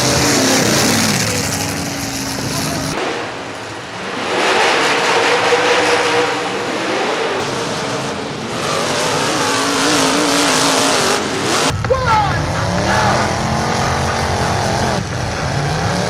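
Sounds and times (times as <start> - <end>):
car engines revving: 0.0 - 16.0
dense wash of noise: 0.0 - 16.0.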